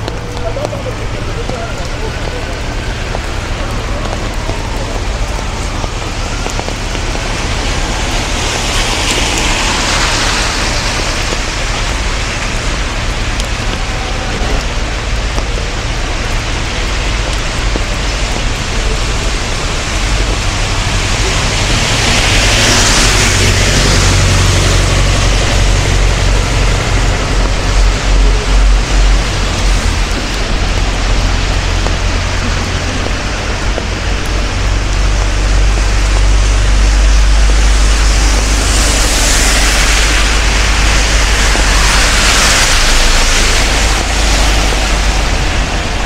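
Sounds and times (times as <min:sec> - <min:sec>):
low engine rumble: 0:00.0 - 0:46.0
rain hissing: 0:00.0 - 0:46.0
tyres on wet road: 0:00.0 - 0:46.0.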